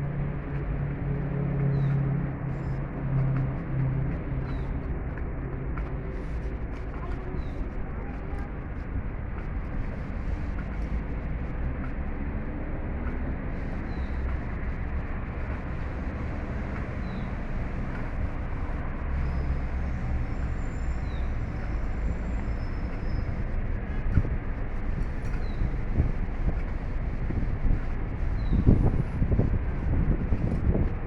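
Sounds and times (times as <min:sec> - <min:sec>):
low vehicle rumble: 0:00.0 - 0:31.0
outdoor noise: 0:00.0 - 0:31.0.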